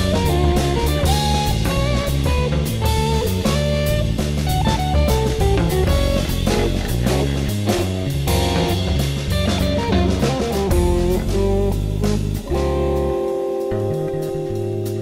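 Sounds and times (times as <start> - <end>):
bass guitar: 0.0 - 15.0
drum kit: 0.0 - 15.0
jazz fusion guitar melody: 0.0 - 15.0.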